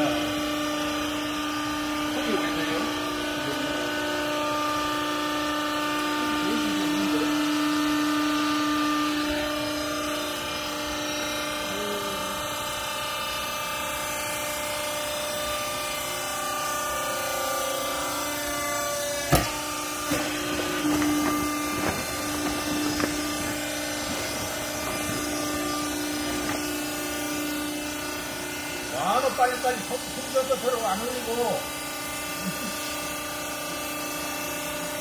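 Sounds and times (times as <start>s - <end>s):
hydraulic pump motor humming: 0.0s - 35.0s.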